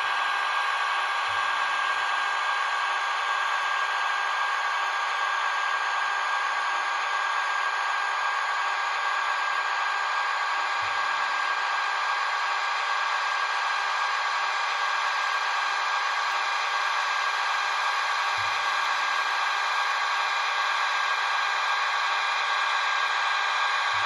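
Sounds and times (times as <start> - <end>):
small motor and gears whirring: 0.0 - 24.0.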